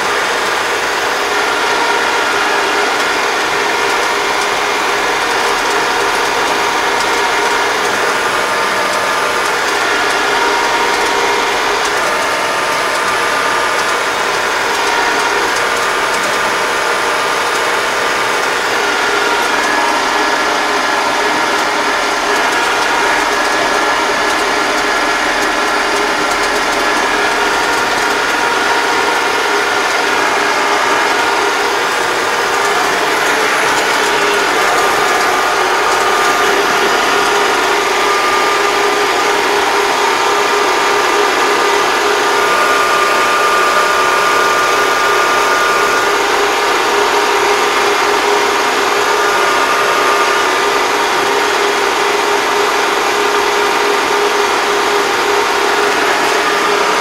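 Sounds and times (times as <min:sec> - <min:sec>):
steady whining tones: 0:00.0 - 0:57.0
tractor diesel engine running: 0:00.0 - 0:57.0.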